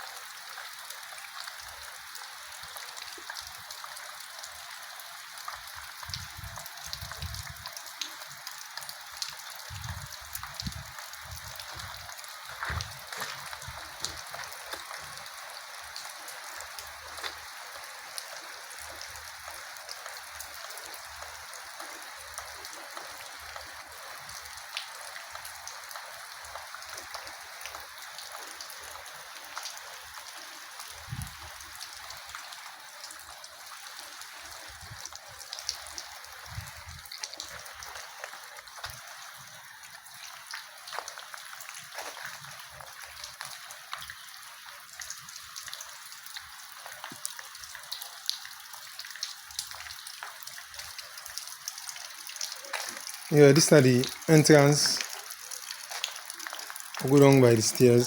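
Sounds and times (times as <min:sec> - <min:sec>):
steady rain: 0:00.0 - 0:58.0
drips and light taps: 0:05.4 - 0:32.6, 0:33.2 - 0:58.0.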